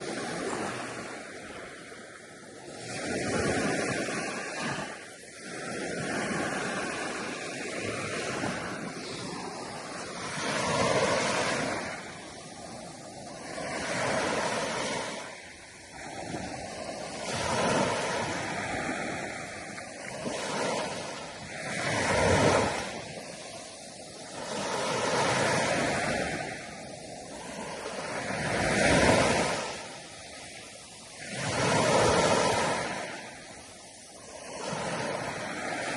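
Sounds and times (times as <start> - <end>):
sea waves breaking: 0.0 - 35.9.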